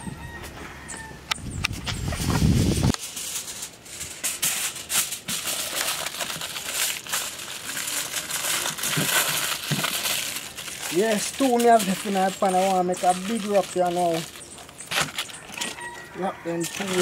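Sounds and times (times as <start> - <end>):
aluminium foil crinkling: 2.8 - 17.0.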